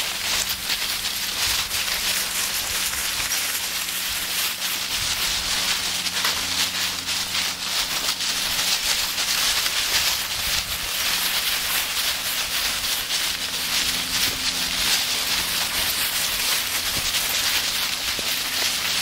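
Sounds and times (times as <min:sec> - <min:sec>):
dry leaves crunching underfoot: 0:00.0 - 0:19.0.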